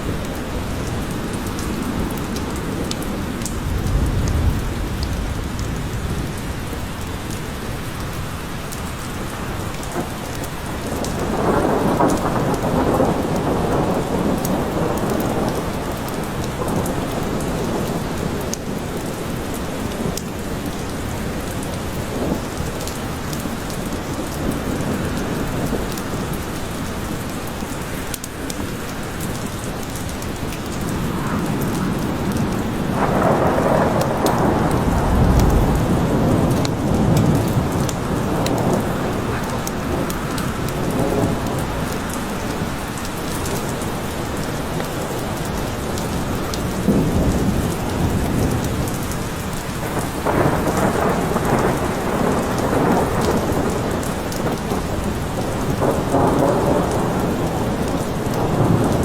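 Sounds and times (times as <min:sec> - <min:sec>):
thunder rumbling: 0:00.0 - 0:07.9, 0:09.4 - 0:20.7, 0:28.4 - 0:59.0
steady rain falling: 0:00.0 - 0:59.0.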